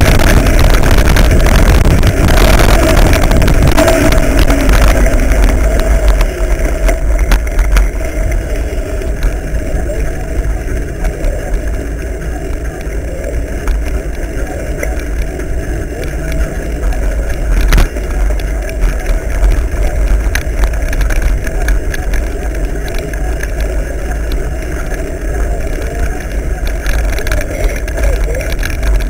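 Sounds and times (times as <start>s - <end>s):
bike rattling on dirt track: 0.0s - 29.0s
wind rumble on microphone: 0.0s - 29.0s.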